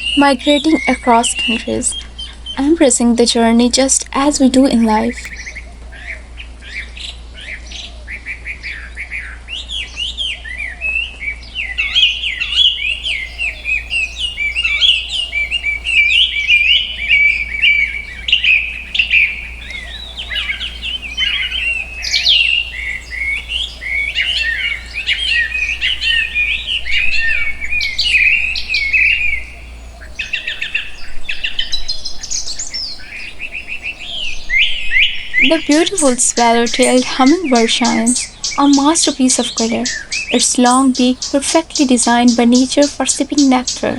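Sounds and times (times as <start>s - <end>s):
songbirds chirping and twittering: 0.0s - 6.1s, 11.8s - 43.9s.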